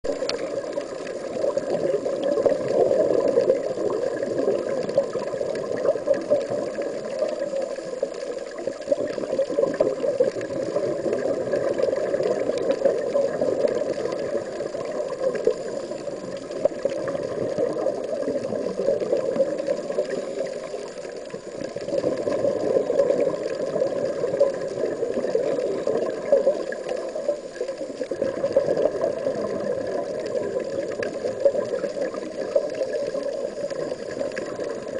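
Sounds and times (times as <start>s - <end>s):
muffled underwater rush: 0.0s - 34.9s.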